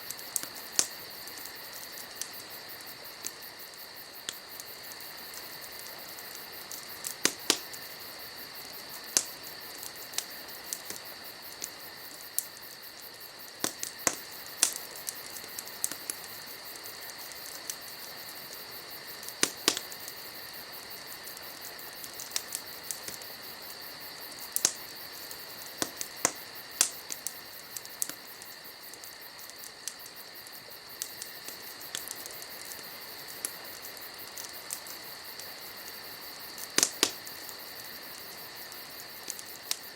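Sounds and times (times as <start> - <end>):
insects chirring: 0.0 - 39.9
wood fire crackling and popping: 0.0 - 39.9.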